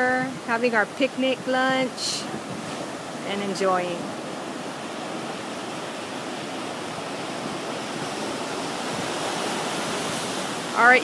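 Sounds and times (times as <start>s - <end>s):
surf washing over rocks: 0.0s - 11.0s.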